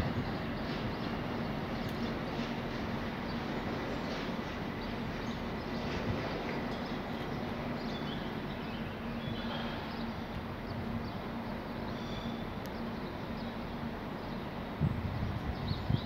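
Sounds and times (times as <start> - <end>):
distant train rumbling: 0.0 - 16.0.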